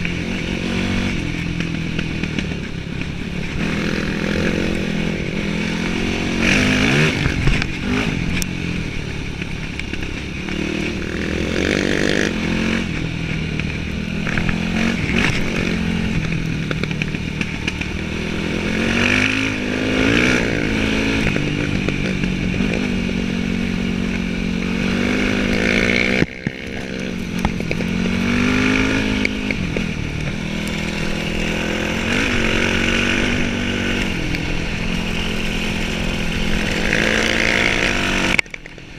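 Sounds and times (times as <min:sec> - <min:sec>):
dirt bike engine revving: 0:00.0 - 0:38.7.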